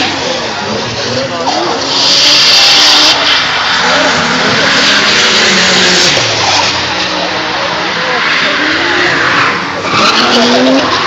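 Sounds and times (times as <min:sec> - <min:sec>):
car engines revving hard: 0:00.0 - 0:11.0
tyres screeching: 0:01.4 - 0:11.0.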